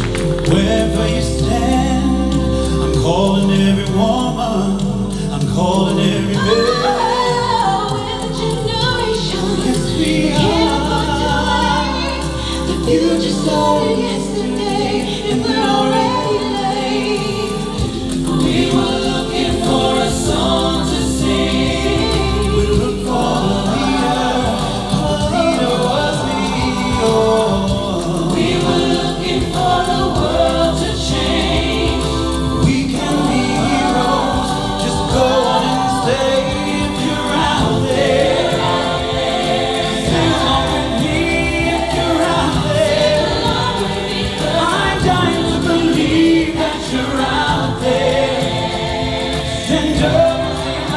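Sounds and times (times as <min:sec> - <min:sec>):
vocal group singing in harmony: 0:00.0 - 0:50.9.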